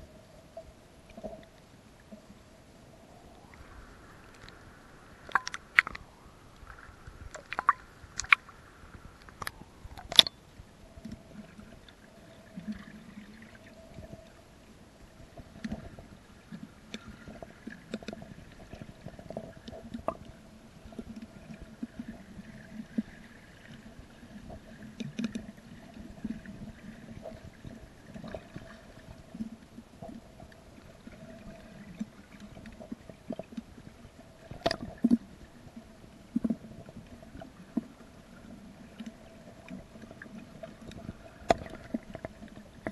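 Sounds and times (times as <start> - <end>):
faint crackles: 0.0 - 42.9
underwater low hum: 0.0 - 42.9.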